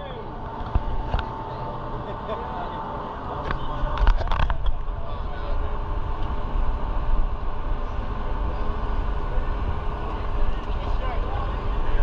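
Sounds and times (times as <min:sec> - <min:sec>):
boat engine rumble and rushing: 0:00.0 - 0:12.0.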